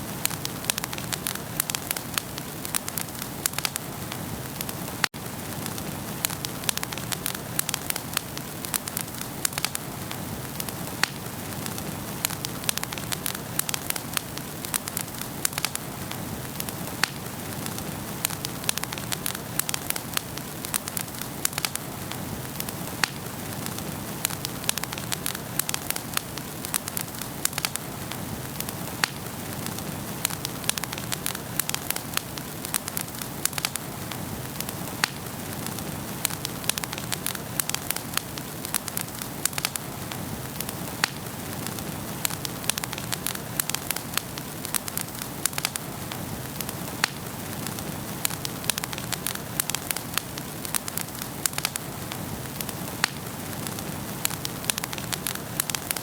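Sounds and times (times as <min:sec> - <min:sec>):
hiss of flames: 0:00.0 - 0:56.0
wood fire crackling and popping: 0:00.0 - 0:56.0.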